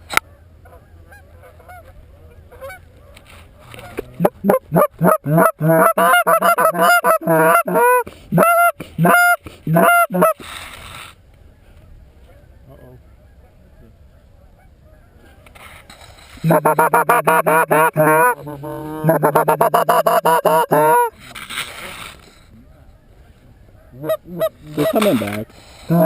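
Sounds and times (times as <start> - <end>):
geese honking and clucking: 0.2 - 10.5, 11.6 - 21.2, 22.2 - 26.0.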